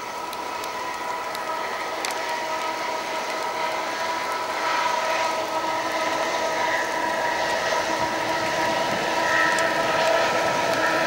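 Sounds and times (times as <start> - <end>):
locomotive hum: 0.0 - 11.0
train noise: 0.0 - 11.0.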